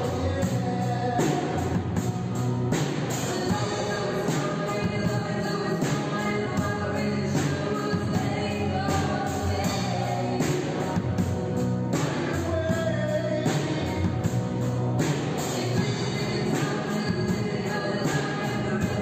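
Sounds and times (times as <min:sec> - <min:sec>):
drum kit: 0:00.0 - 0:19.0
electric guitars: 0:00.0 - 0:19.0
keyboards: 0:00.0 - 0:19.0.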